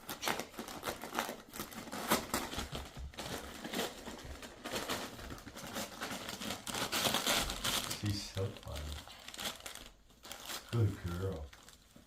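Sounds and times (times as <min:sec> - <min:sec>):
wrapping paper crinkling and ripping: 0:00.0 - 0:12.0.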